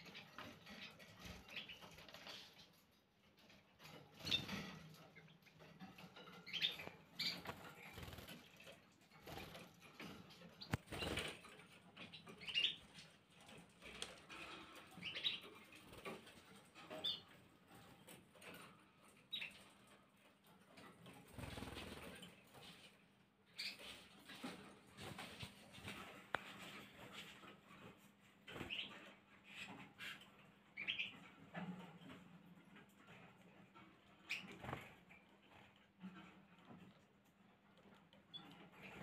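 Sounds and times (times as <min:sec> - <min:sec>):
canary chirps: 0:00.0 - 0:39.0.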